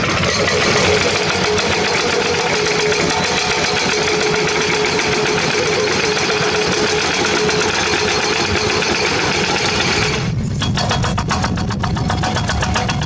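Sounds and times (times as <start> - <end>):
excavator diesel engine running: 0.0 - 13.0
steady whine: 0.0 - 13.0.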